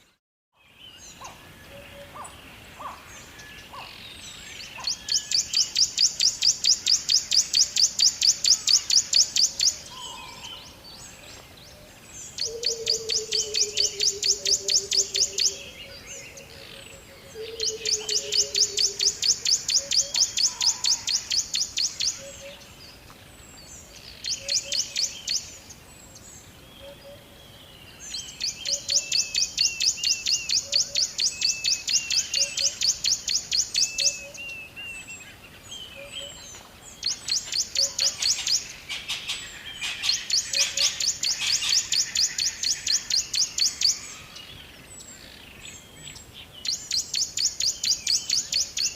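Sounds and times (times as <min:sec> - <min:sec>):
birds chirping in fast trills: 0:00.9 - 0:11.2, 0:12.0 - 0:48.9.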